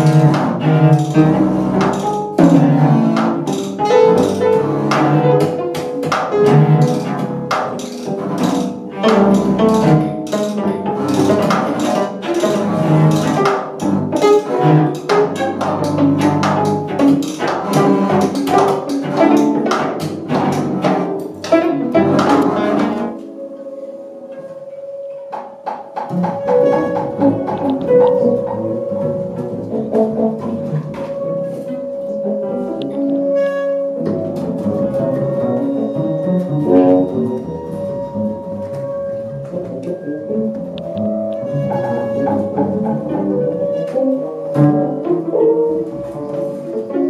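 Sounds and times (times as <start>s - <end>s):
cello and double bass bowing: 0.0s - 47.0s.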